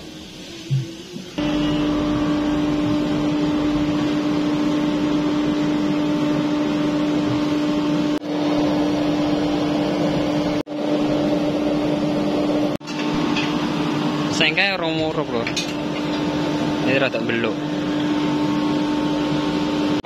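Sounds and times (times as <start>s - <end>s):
burner blower humming: 0.0s - 20.0s.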